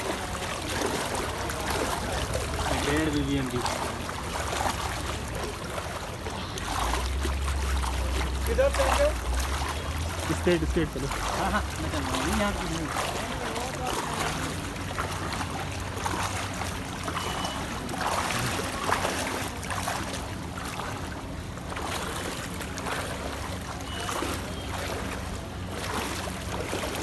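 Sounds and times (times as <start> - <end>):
low engine hum: 0.0 - 27.0
water swishing and splashing: 0.0 - 27.0.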